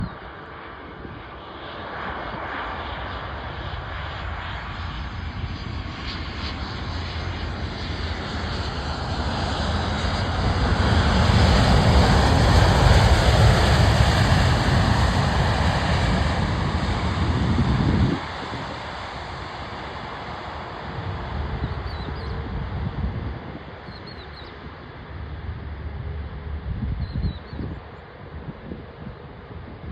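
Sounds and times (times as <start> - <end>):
jet airliner engines rushing: 0.0 - 29.9.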